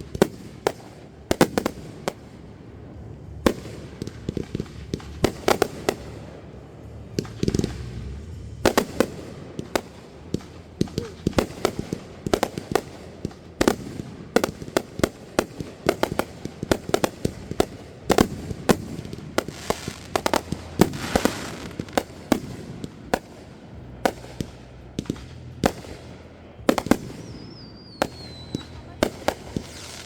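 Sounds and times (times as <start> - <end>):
fireworks bangs and pops: 0.0 - 30.0
fireworks crackling: 0.0 - 30.0.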